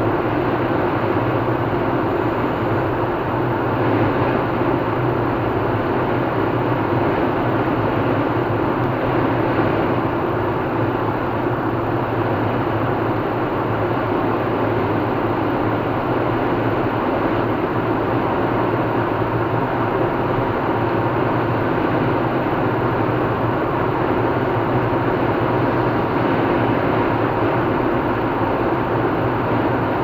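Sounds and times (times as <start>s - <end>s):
car engine hum: 0.0s - 30.0s.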